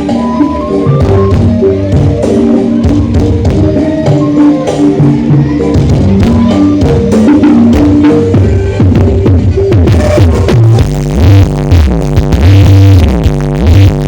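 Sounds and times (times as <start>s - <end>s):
loud music with heavy bass: 0.0s - 14.0s.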